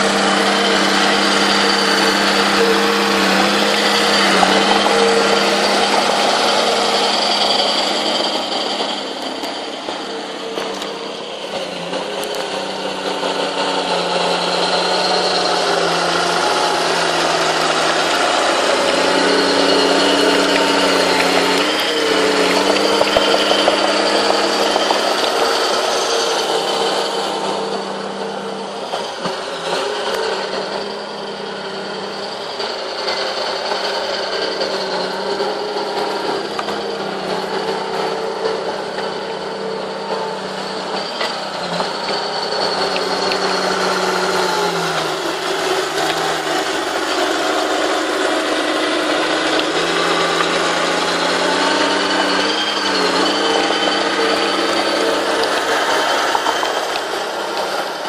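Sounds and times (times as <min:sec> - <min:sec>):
bulldozer diesel engine: 0:00.0 - 0:58.0
steel tracks clattering: 0:00.0 - 0:58.0.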